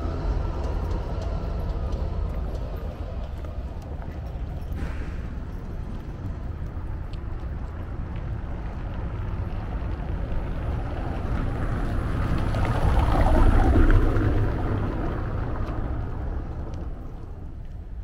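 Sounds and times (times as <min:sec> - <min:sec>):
vehicle rumble passing: 0:00.0 - 0:18.0.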